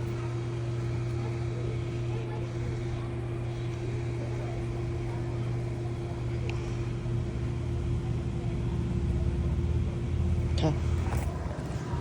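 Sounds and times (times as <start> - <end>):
air conditioner units humming: 0.0 - 12.0.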